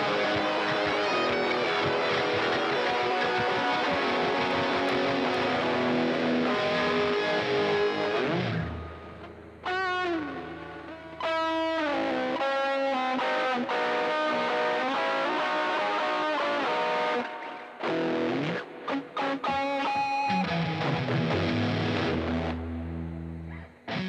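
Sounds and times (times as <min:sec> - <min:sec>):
electric guitar bent lead notes: 0:00.0 - 0:24.0
electric guitar strummed chords: 0:00.0 - 0:24.0.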